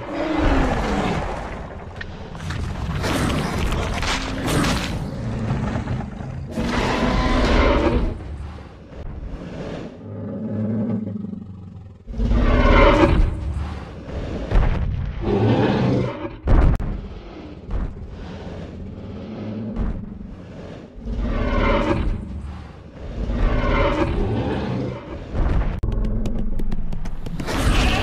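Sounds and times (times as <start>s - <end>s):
dinosaur roars: 0.0s - 14.6s, 17.0s - 25.4s.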